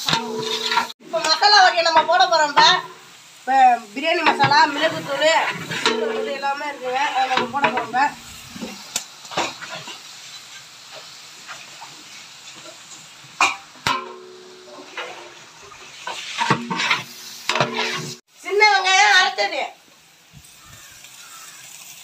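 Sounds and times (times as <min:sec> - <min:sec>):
masala sizzling in a pot: 0:00.0 - 0:22.0.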